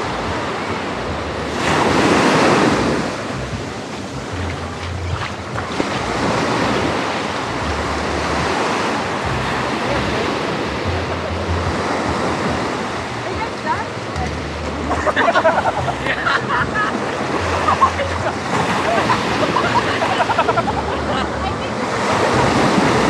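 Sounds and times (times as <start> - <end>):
waves breaking on sandy beach: 0.0 - 23.0
wind on microphone: 0.0 - 23.0.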